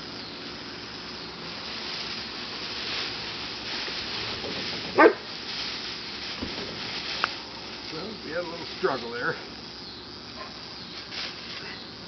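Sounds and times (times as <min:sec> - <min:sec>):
torch flame hissing: 0:00.0 - 0:11.8.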